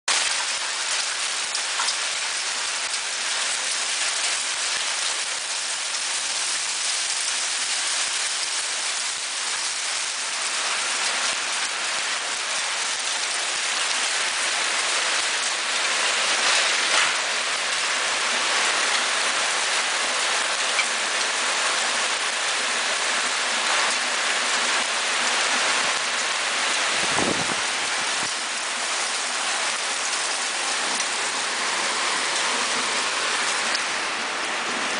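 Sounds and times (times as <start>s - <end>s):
heavy rain on roof tiles: 0.1s - 34.9s.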